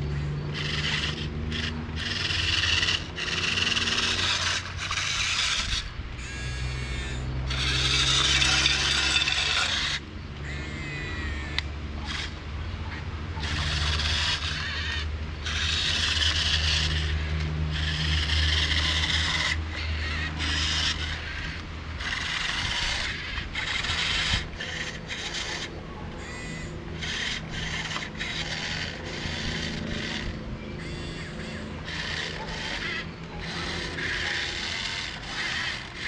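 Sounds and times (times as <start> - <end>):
small electric motors whirring: 0.0 - 36.0.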